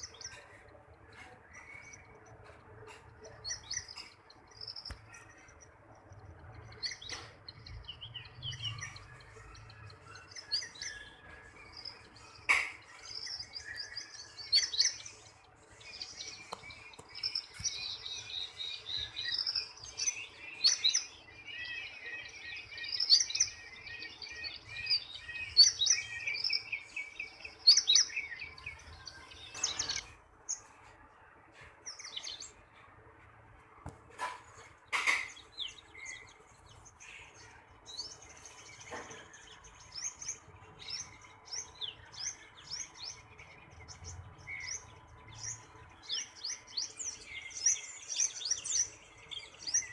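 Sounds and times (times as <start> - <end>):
birds chirping and twittering: 0.0 - 49.9.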